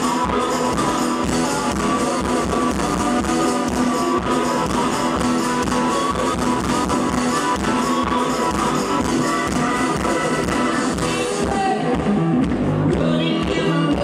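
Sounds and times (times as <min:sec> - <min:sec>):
band music with strummed guitar: 0:00.0 - 0:14.0.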